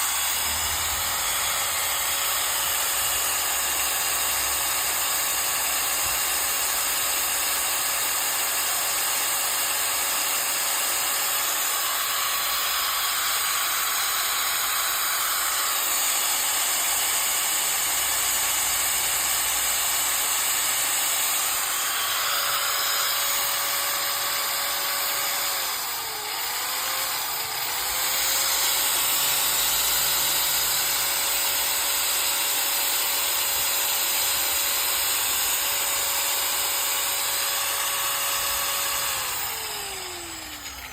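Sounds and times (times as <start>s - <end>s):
angle grinder whining: 0.0s - 40.9s.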